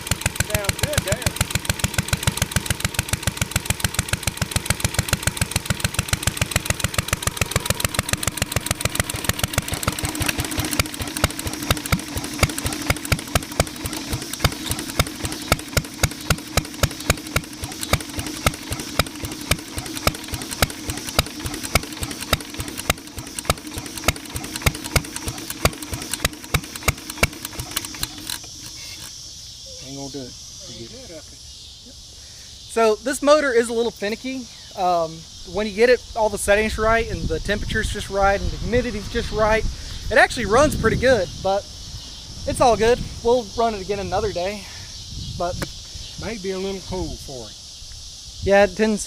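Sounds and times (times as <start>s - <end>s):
single-cylinder engine exhaust beats: 0.0s - 29.6s, 35.1s - 48.0s.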